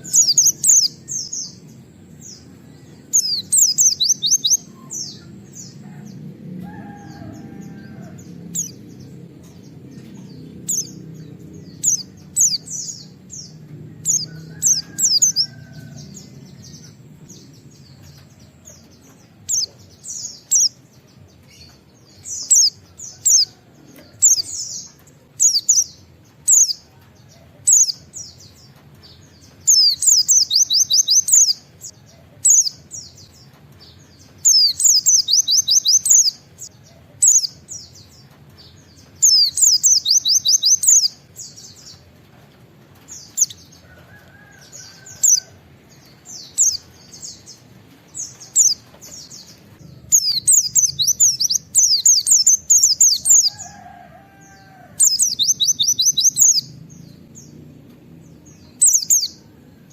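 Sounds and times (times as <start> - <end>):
bird chirping: 0.0 - 59.5.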